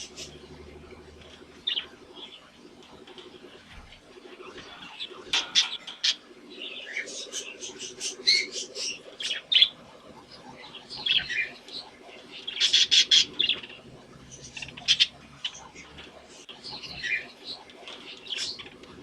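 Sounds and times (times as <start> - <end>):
budgies chirping and warbling: 0.0 - 19.0
low steady hum: 0.0 - 19.0.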